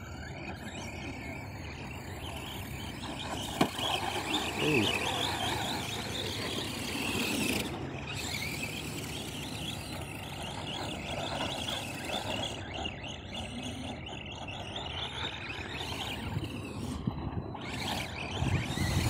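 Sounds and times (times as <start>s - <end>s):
toy truck motors whining: 0.0s - 19.0s.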